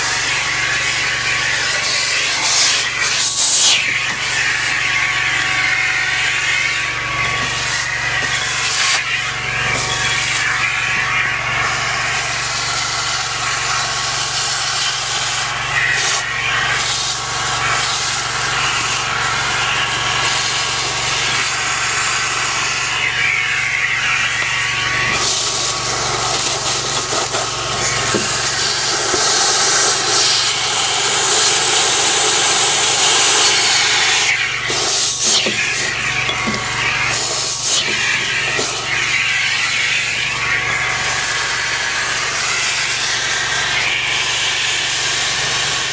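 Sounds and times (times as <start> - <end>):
industrial vacuum running: 0.0 - 45.9.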